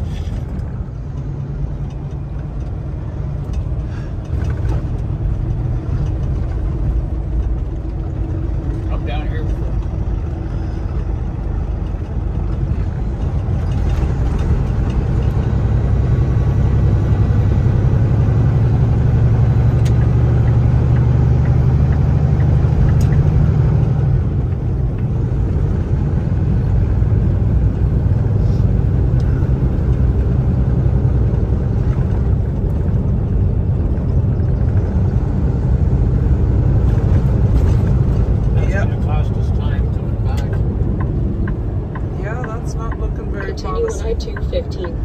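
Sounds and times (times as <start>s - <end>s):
truck diesel engine drone: 0.0s - 45.0s
tyre road noise: 0.0s - 45.0s.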